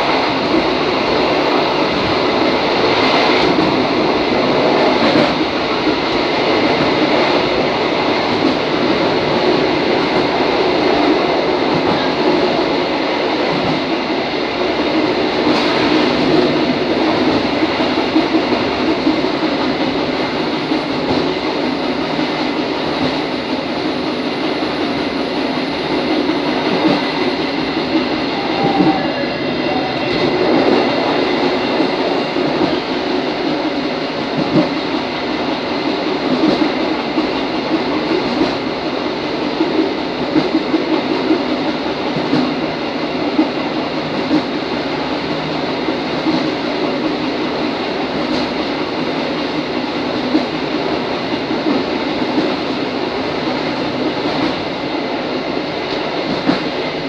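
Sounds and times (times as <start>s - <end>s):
railcar wheels on rails: 0.0s - 57.0s.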